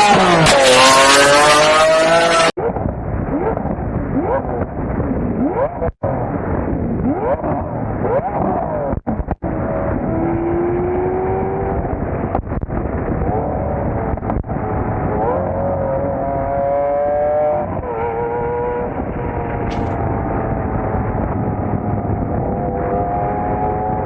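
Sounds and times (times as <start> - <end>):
car engine revving: 0.0 - 2.7, 3.3 - 24.0.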